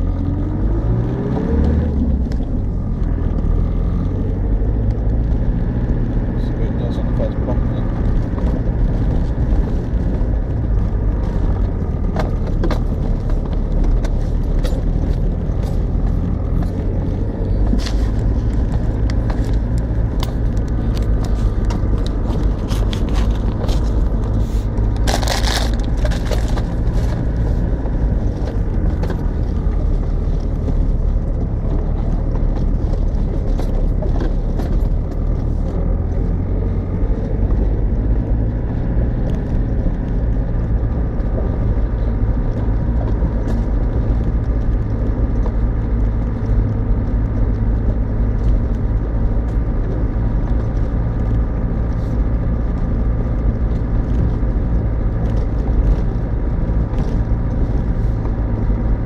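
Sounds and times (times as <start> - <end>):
diesel engine running: 0.0 - 59.0
suspension clicks and knocks: 7.3 - 59.0.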